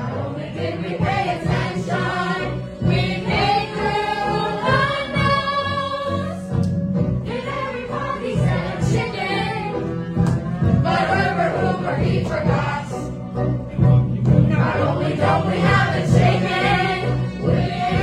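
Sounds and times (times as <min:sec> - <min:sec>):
group singing show tune: 0:00.0 - 0:06.6, 0:07.2 - 0:13.5, 0:14.3 - 0:18.0
instrumental accompaniment: 0:00.0 - 0:18.0.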